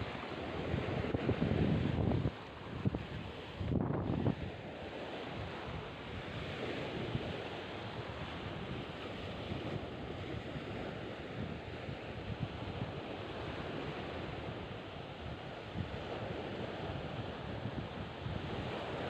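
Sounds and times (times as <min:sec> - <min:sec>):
surf washing on a beach: 0:00.0 - 0:19.0
wind buffeting the microphone: 0:00.0 - 0:19.0.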